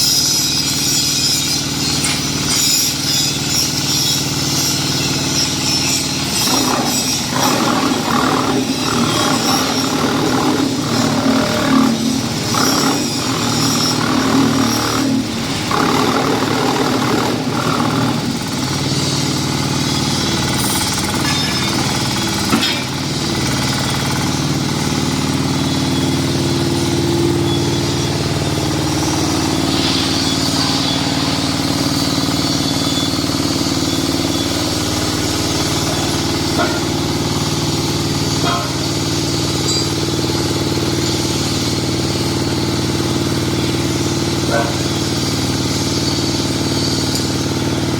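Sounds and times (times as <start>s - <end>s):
machine rattling in bursts: 0.1s - 47.9s
engine droning: 6.2s - 46.7s.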